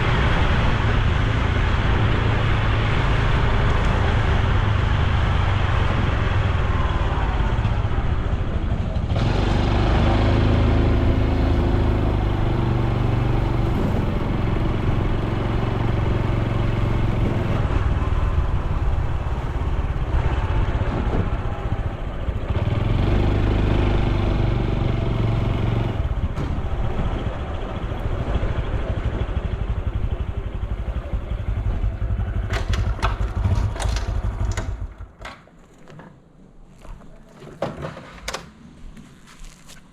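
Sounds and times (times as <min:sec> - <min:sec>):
motorcycle engine running: 0:00.0 - 0:35.2
road and wind noise: 0:00.0 - 0:39.9.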